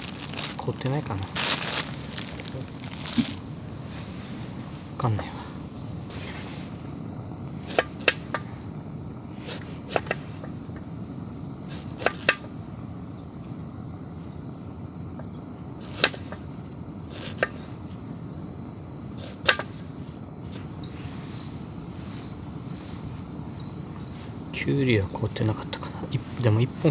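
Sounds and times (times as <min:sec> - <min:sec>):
low background noise: 0:00.0 - 0:26.9.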